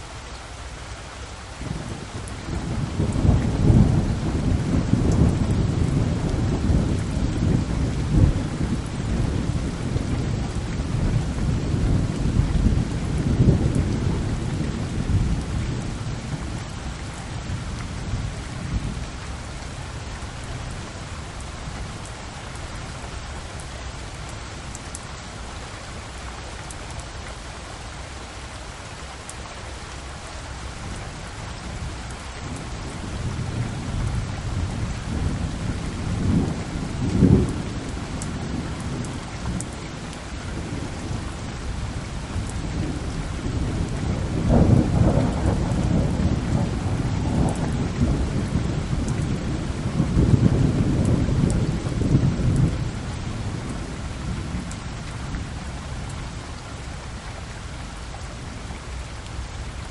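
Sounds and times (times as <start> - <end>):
wind buffeting microphone: 1.6 - 29.1, 30.0 - 59.9.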